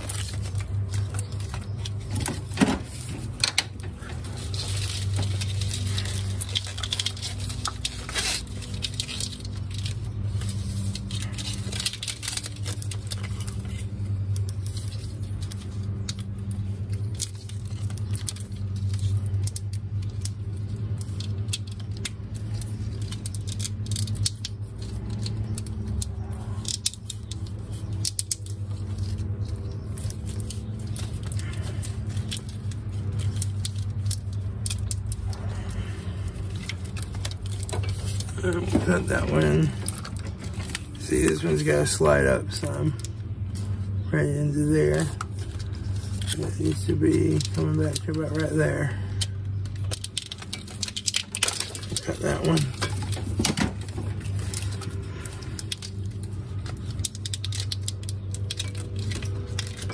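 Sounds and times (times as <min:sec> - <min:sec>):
plastic wire loom crinkling: 0:00.0 - 0:59.9
steady low hum: 0:00.0 - 0:59.9.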